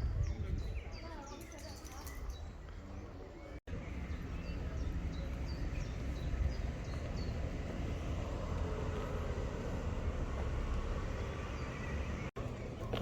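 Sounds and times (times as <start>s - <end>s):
small birds chirping: 0.0s - 9.2s, 10.0s - 13.0s.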